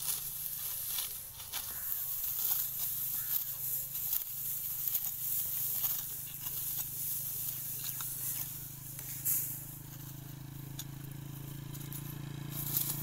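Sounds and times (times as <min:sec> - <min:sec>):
rustling of stalks: 0:00.0 - 0:13.0
sickle cutting dry stalks: 0:00.0 - 0:13.0.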